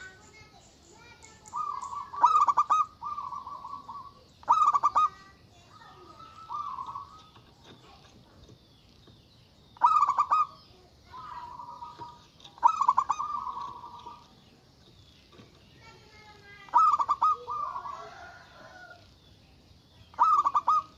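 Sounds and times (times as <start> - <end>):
dove cooing: 0.0 - 8.5, 9.8 - 14.7, 15.9 - 19.1, 20.1 - 20.9.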